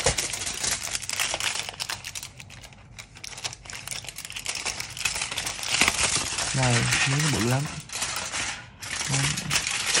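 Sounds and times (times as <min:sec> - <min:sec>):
aluminium foil crinkling: 0:00.0 - 0:10.0.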